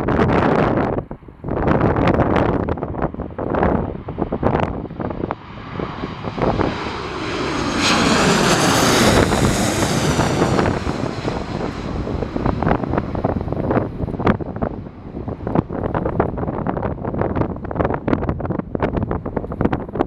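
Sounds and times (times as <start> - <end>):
jet engines passing overhead: 0.0 - 20.0
wind buffeting microphone: 0.0 - 20.0.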